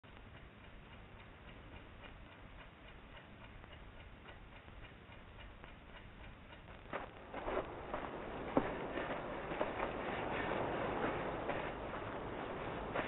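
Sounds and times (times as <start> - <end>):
clock ticking: 0.0 - 13.0
low hiss: 0.0 - 13.0.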